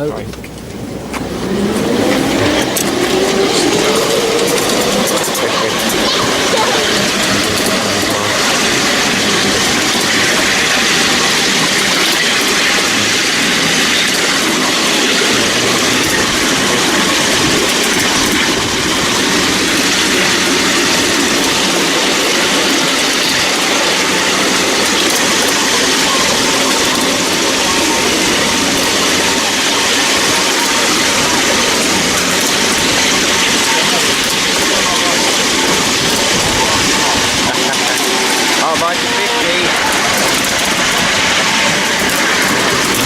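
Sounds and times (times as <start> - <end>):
train wheels rolling on rails: 0.0 - 43.0.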